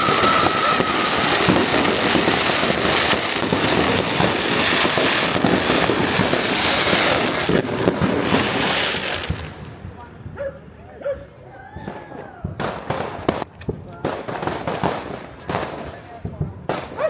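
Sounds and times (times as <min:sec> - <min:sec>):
fireworks crackling: 0:00.0 - 0:10.9, 0:11.6 - 0:17.0.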